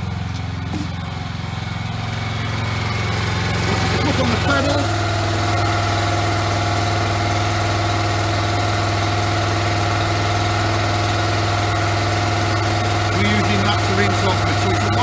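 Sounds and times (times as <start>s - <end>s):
pressure washer engine running: 0.0s - 15.0s.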